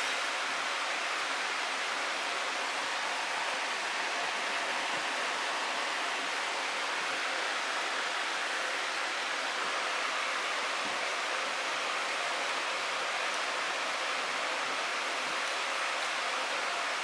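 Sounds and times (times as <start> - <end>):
steady rushing hiss: 0.0 - 17.0.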